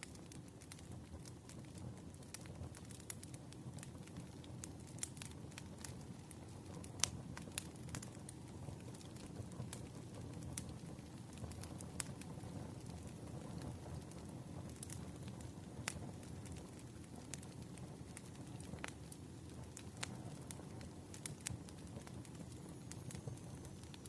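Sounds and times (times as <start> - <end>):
campfire logs crackling and popping: 0.0 - 24.0
low rumble of flames: 0.0 - 24.0.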